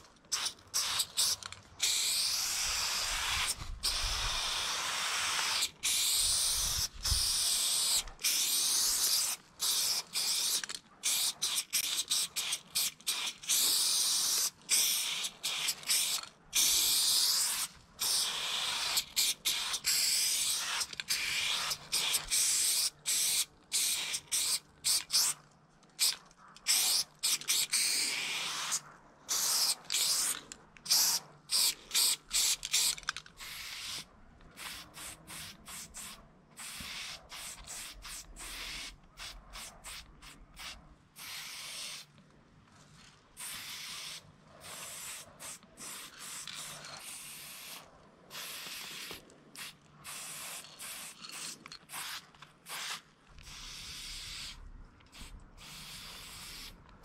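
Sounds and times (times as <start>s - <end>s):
spray paint can hissing: 0.3s - 25.4s, 26.0s - 42.1s, 43.4s - 56.8s.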